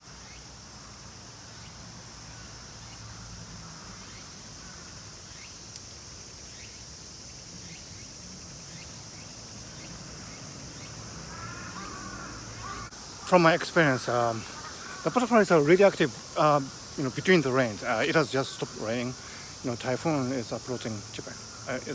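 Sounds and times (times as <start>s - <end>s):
insect chorus drone: 0.0s - 21.9s.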